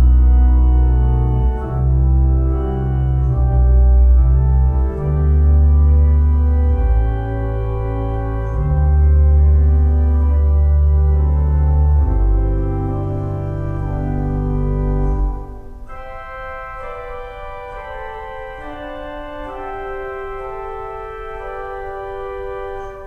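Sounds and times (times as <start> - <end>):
organ playing slow chords: 0.0 - 23.0.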